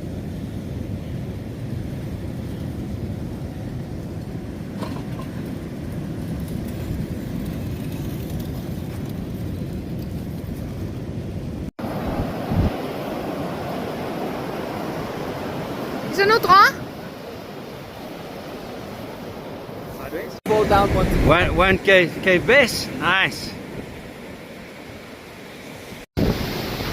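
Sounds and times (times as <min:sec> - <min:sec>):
wind rumbling on microphone: 0:00.0 - 0:22.3, 0:25.7 - 0:26.9.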